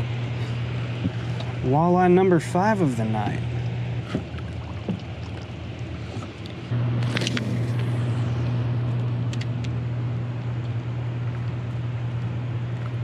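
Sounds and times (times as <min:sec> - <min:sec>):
generators humming: 0:00.0 - 0:13.0.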